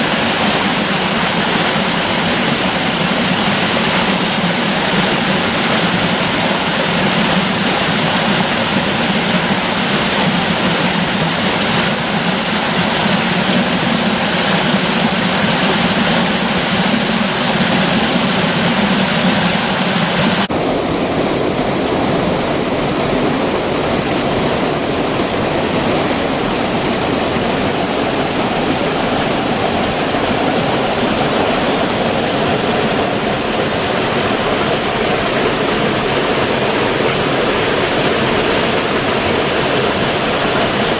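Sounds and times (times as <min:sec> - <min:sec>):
creek water rushing: 0:00.0 - 0:40.9.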